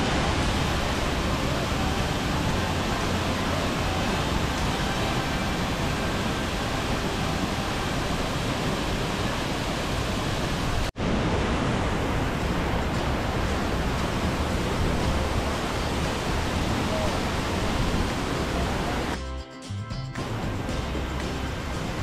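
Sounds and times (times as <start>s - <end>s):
waterfall rushing: 0.0s - 19.2s, 20.2s - 22.0s.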